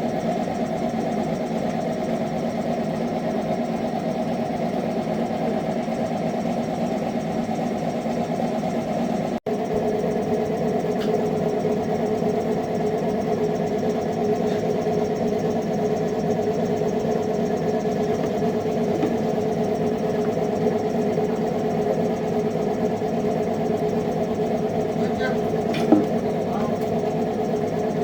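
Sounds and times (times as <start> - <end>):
boat engine idling: 0.1 - 28.0.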